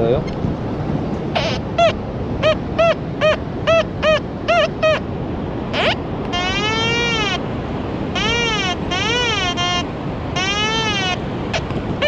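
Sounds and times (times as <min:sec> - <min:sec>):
surf rushing: 0:00.0 - 0:12.0.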